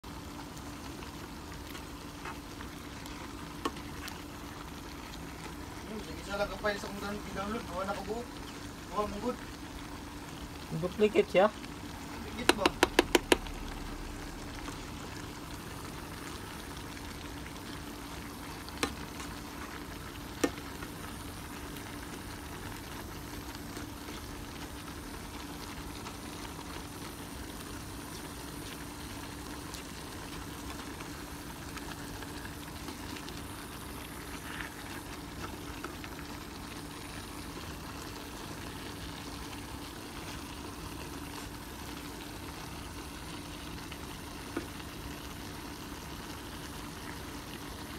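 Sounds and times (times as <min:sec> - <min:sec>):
faint steady hum: 0:00.0 - 0:47.9
food sizzling in a frying pan: 0:00.0 - 0:47.9.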